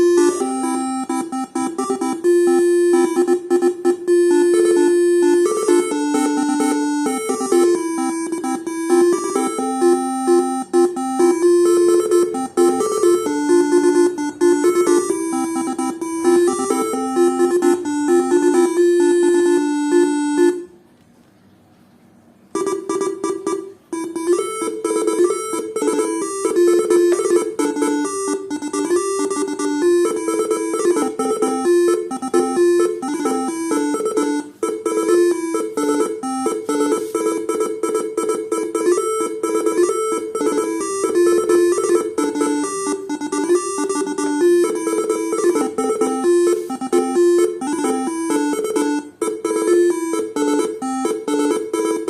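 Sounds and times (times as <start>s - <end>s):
horn module playing melody tones: 0.0s - 20.8s, 22.5s - 52.0s.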